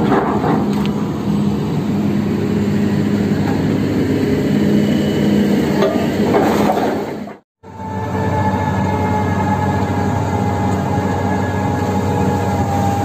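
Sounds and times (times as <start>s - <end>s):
drilling rig engine running: 0.0s - 6.4s, 7.0s - 13.0s.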